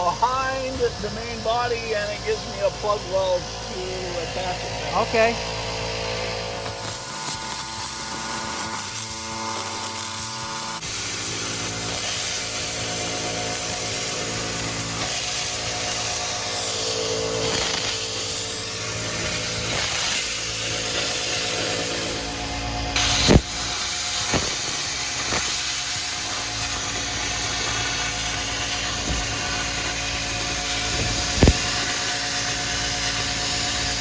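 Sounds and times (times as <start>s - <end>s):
plasma cutter hissing: 0.0s - 34.0s.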